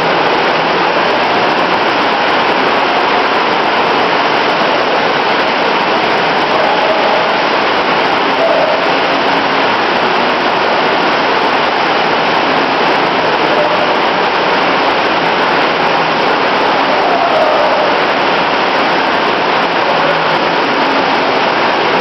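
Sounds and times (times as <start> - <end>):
loud steady rushing noise: 0.0 - 22.0.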